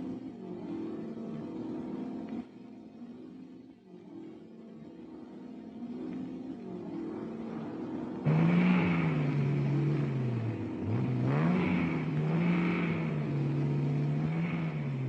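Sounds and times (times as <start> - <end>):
sports car engine revving: 0.0 - 3.3, 3.9 - 15.0.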